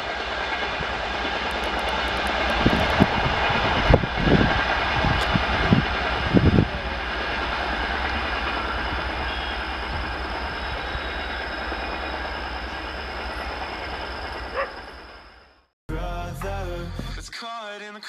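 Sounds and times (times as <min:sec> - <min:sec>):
train coaches rumbling: 0:00.0 - 0:15.7.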